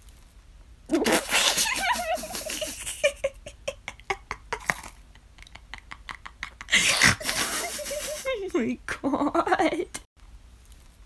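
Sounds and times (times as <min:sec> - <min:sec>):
person laughing: 0:00.9 - 0:10.0.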